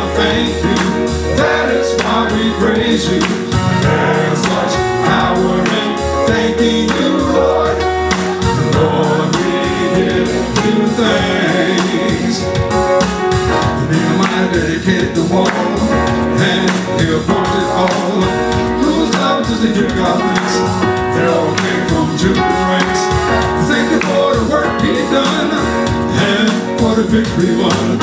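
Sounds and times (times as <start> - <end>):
gospel worship music with singing: 0.0 - 28.0.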